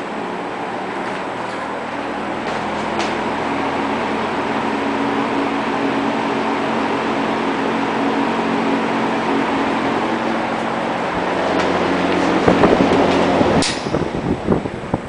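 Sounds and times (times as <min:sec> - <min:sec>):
box fan rushing air: 0:00.0 - 0:15.0
low motor hum: 0:00.0 - 0:15.0.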